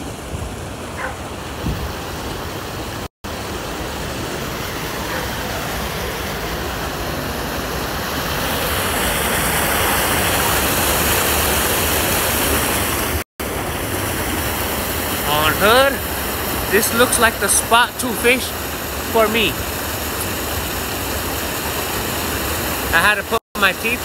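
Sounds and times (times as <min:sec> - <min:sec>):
water rushing through gate: 0:00.0 - 0:24.0.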